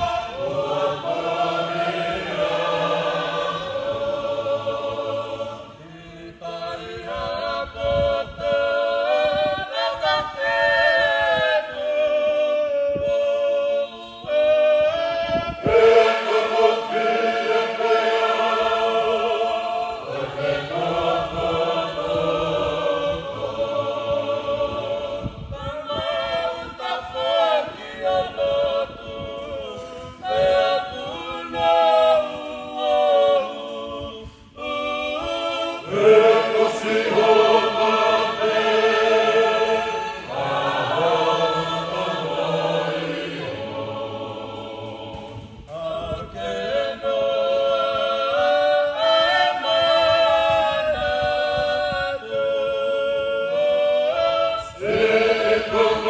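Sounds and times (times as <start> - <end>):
choir singing a hymn a cappella: 0.0 - 56.0.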